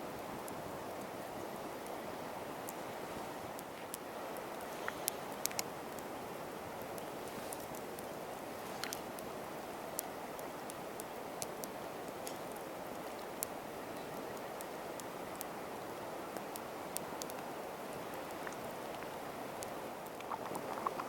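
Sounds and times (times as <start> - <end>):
campfire crackling: 0.1 - 21.0.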